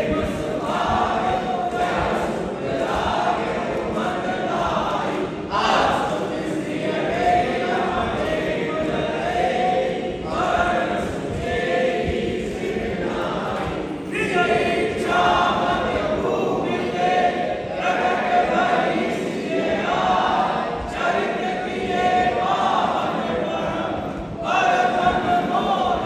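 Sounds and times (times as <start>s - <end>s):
group singing a hymn: 0.0s - 26.0s.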